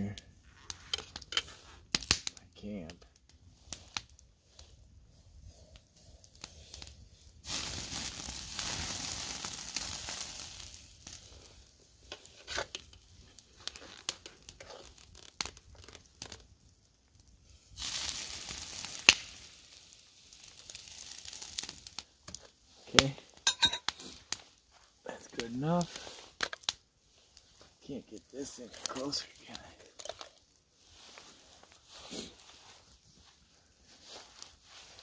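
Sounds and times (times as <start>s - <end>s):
grease hissing on campfire: 0.0s - 35.0s.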